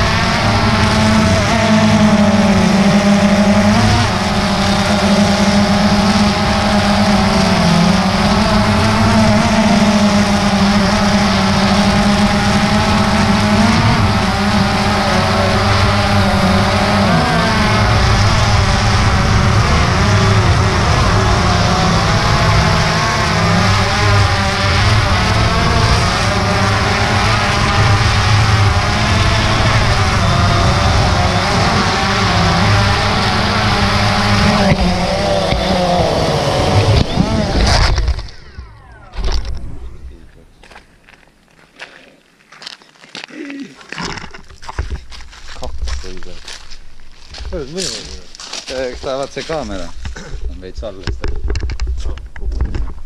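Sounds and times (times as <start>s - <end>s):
drone propellers buzzing: 0.0s - 41.2s, 43.9s - 53.0s.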